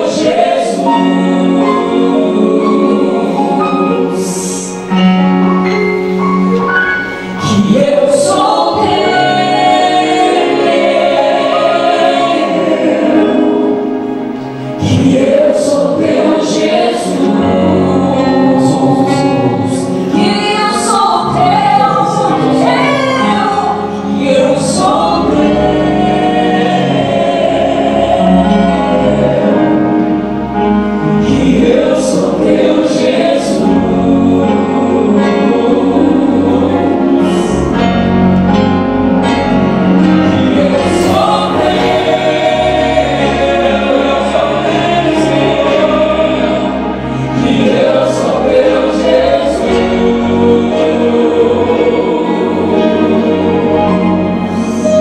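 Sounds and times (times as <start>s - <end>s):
group singing a worship song: 0.0s - 5.0s, 7.4s - 55.0s
instrumental accompaniment: 0.0s - 55.0s.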